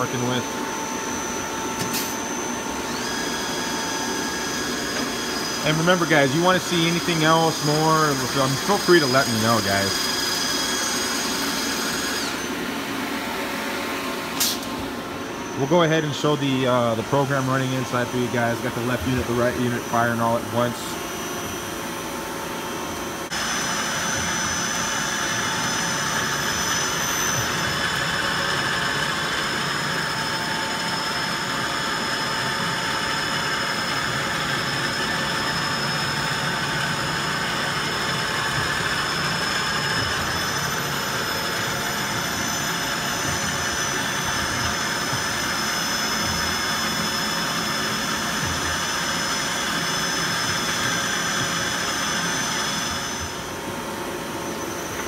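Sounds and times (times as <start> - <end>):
machine high-pitched whine: 0.0 - 55.0.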